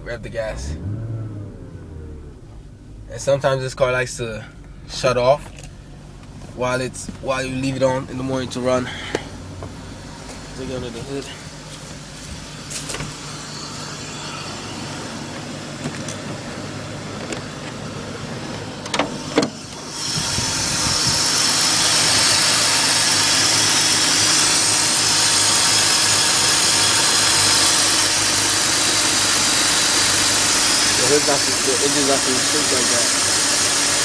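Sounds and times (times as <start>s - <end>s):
car engine idling rough: 0.0s - 34.0s.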